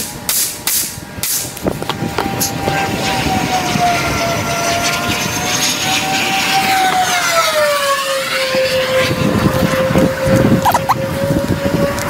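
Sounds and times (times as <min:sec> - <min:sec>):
aircraft passing overhead: 0:01.0 - 0:12.0.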